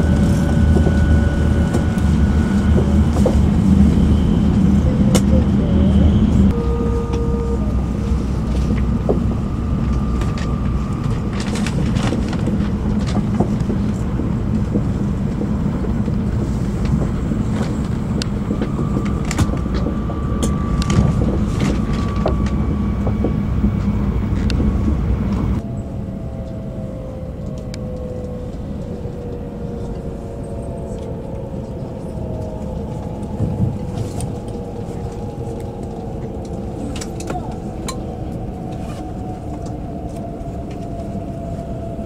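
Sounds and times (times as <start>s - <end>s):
train cabin rumble: 0.0s - 42.0s.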